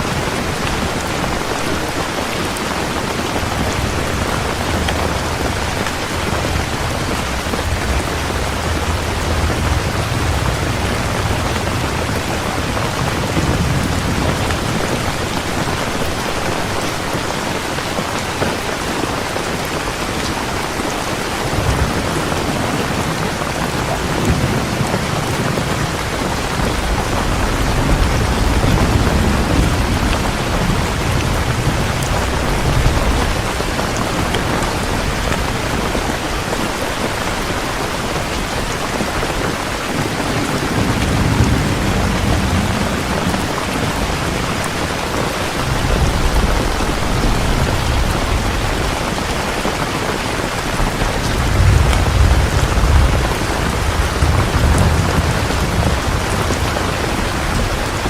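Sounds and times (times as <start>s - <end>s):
heavy rain falling: 0.0s - 58.0s
thunder rolling: 0.0s - 58.0s.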